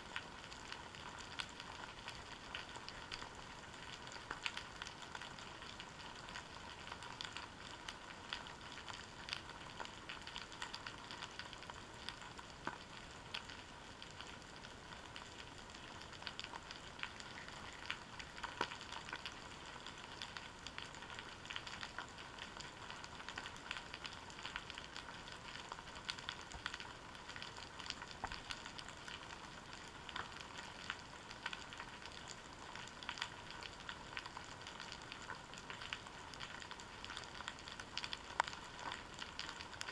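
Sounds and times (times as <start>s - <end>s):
underwater crackling: 0.1s - 39.9s.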